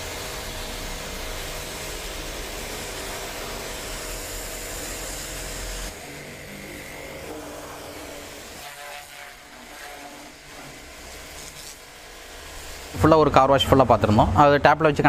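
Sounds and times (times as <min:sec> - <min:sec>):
water jet hissing: 0:00.0 - 0:13.5
pressure washer motor hum: 0:00.0 - 0:15.0.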